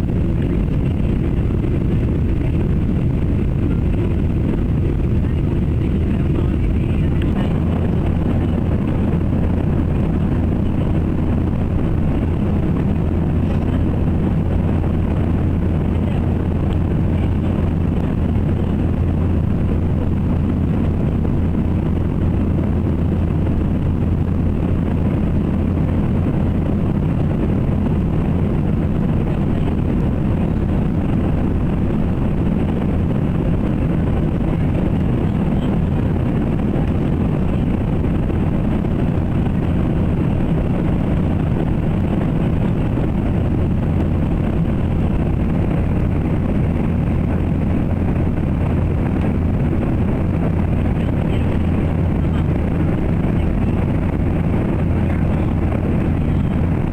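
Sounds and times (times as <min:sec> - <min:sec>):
airplane engine drone: 0:00.0 - 0:56.9.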